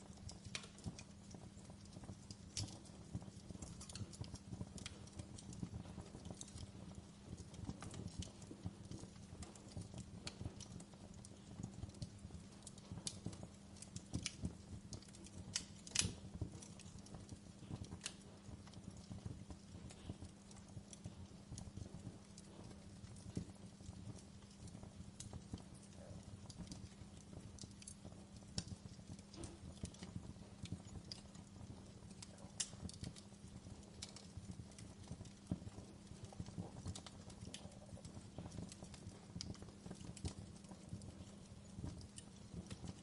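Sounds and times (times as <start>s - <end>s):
fire crackling in a fireplace: 0.0s - 43.0s.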